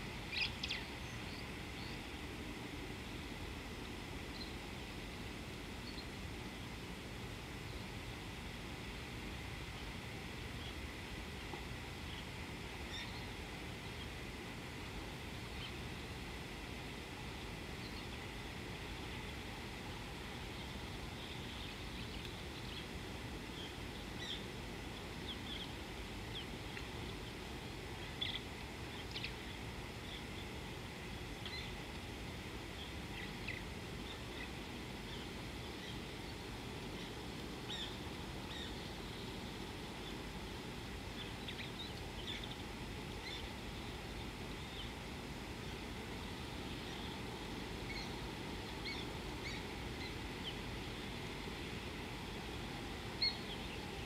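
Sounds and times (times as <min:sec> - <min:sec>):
low background hiss: 0:00.0 - 0:54.0.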